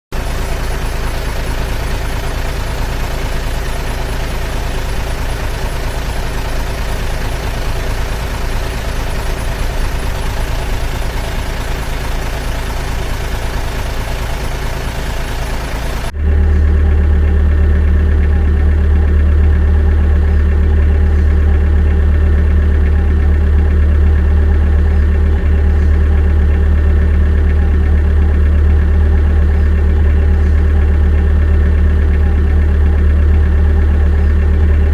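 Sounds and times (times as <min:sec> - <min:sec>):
rc machine engine droning: 0:00.1 - 0:34.9
low even hum: 0:00.2 - 0:34.9.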